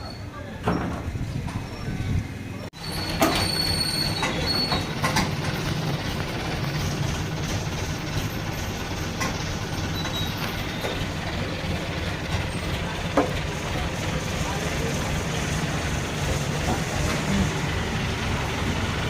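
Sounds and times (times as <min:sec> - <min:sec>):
low mechanical rumble: 0:00.2 - 0:19.0.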